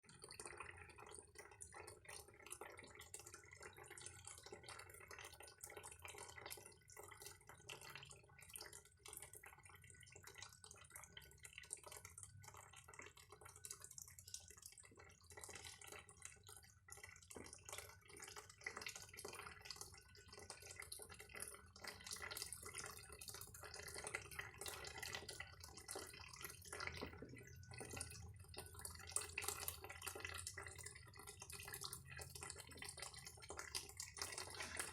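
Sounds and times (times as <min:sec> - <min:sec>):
faint water dripping and trickling: 0:00.0 - 0:34.9.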